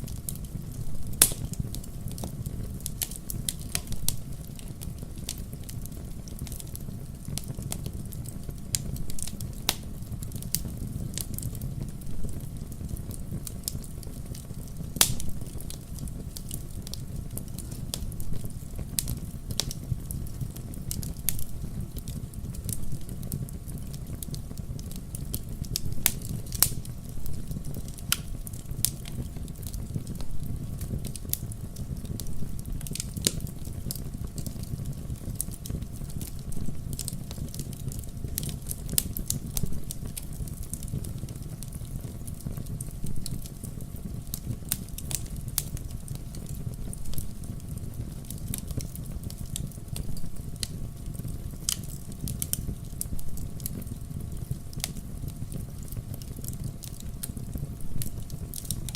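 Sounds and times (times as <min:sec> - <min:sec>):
fire crackling and popping: 0:00.0 - 0:58.9
loud fire snaps: 0:00.0 - 0:58.9
low rumble of flames: 0:00.0 - 0:58.9.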